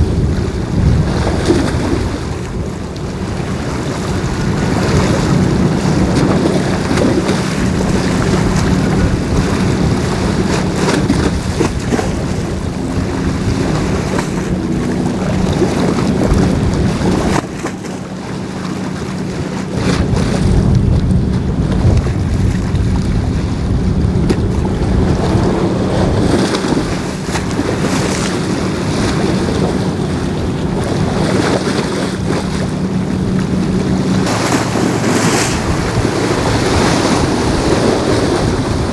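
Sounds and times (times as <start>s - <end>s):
choppy water: 0.0s - 38.9s
wind buffeting microphone: 0.0s - 38.9s.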